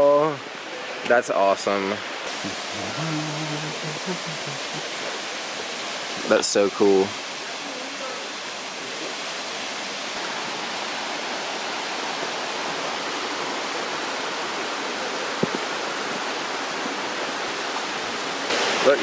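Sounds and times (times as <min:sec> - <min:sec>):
waterfall pouring: 0:00.0 - 0:19.0.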